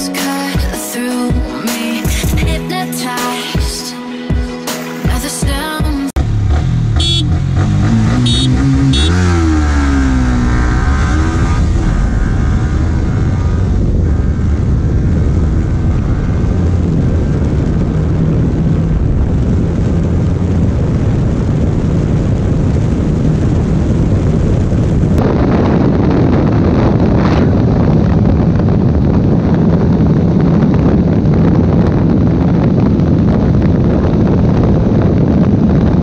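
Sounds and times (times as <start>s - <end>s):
wind rush on microphone: 3.5s - 36.0s
motorcycle engine accelerating: 6.2s - 36.0s.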